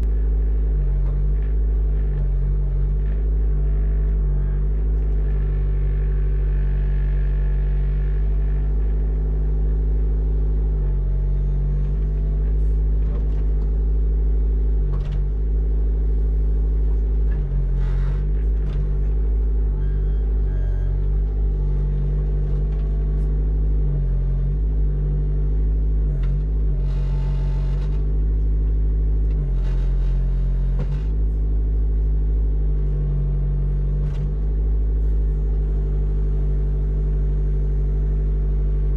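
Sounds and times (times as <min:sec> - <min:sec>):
excavator engine running: 0:00.0 - 0:38.9.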